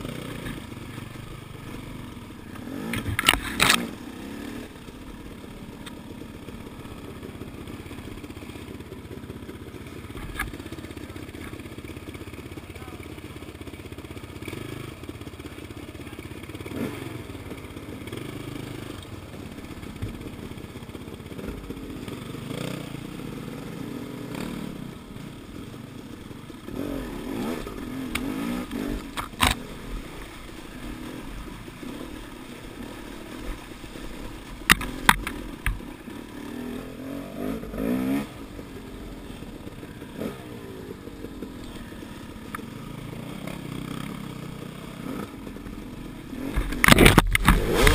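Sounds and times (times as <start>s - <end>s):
dirt bike engine with throttle blips: 0.0s - 47.9s.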